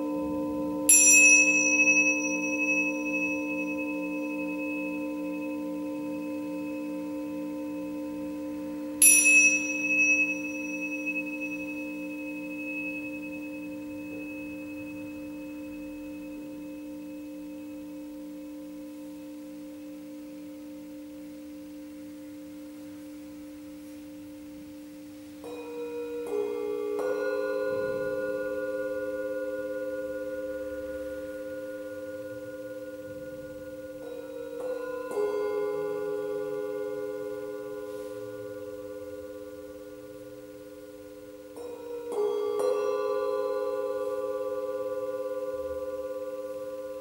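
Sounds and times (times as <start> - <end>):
mallet striking singing bowls: 0.0 - 21.7, 25.4 - 47.0
singing bowls ringing: 0.0 - 47.0
tingsha cymbals ringing: 0.0 - 47.0.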